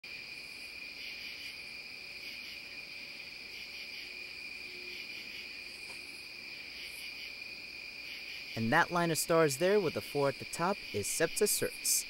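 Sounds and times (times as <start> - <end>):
crickets chirping: 0.1 - 12.0.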